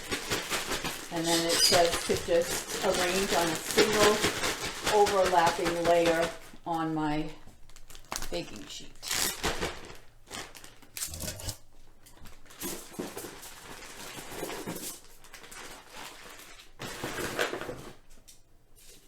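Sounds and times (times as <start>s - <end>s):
plastic bag rustling: 0.0s - 18.2s.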